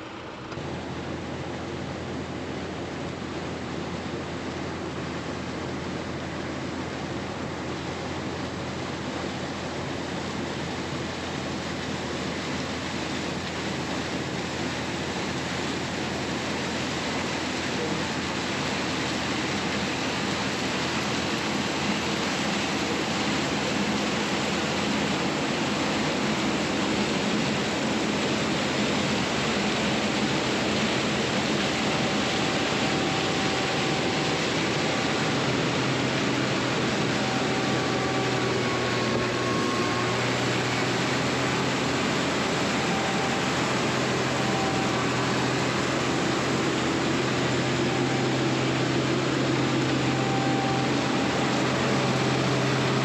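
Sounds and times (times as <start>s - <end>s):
deep steady hum: 0.0s - 53.0s
farm machinery running: 0.0s - 53.0s.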